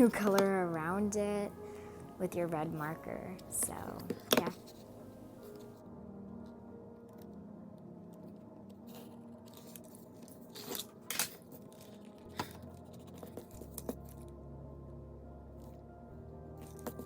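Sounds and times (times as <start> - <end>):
faint steady background tones: 0.0 - 17.0.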